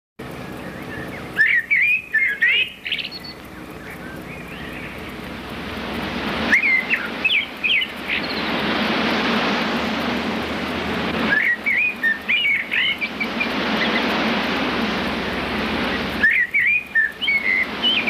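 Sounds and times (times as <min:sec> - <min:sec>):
songbirds chirping: 0:00.2 - 0:09.3, 0:10.0 - 0:18.0
steady rushing noise: 0:00.2 - 0:18.0.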